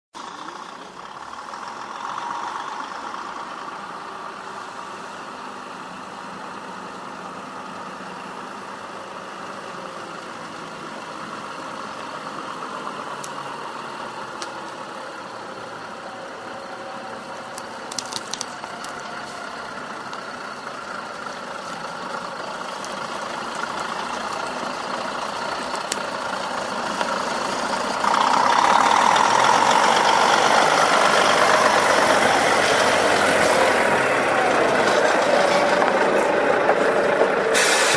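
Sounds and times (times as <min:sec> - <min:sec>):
truck engine running: 0:00.2 - 0:37.9.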